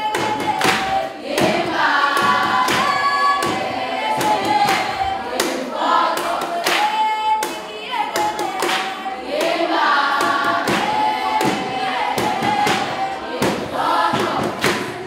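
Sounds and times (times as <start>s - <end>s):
group of women singing: 0.0s - 15.0s
percussive hits: 0.0s - 15.0s.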